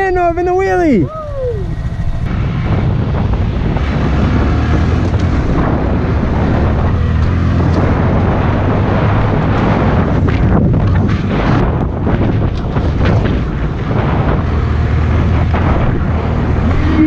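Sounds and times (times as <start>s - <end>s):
wind rush on microphone: 0.0s - 17.0s
motorcycle engine running: 1.1s - 17.0s.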